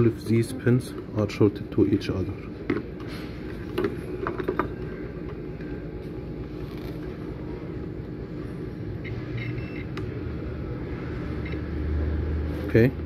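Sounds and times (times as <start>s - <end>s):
low background rumble and hum: 0.0s - 13.0s.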